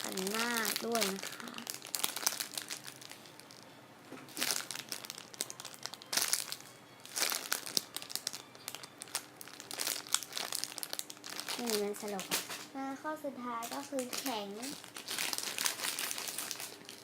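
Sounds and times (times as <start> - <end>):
plastic packaging crinkling: 0.0 - 12.8, 13.6 - 17.0.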